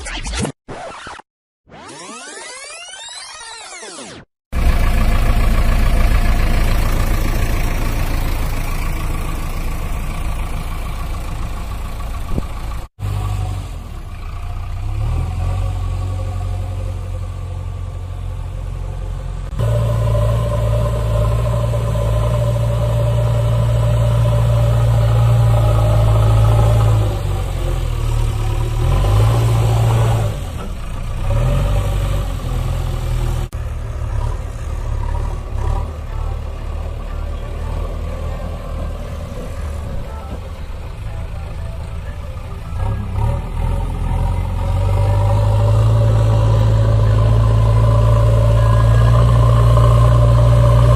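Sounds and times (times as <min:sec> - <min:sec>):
loud engine drone: 0:04.5 - 0:50.9.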